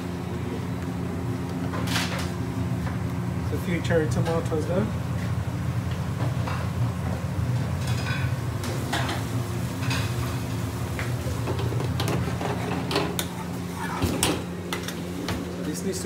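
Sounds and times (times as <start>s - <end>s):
kitchen hum: 0.0s - 16.0s.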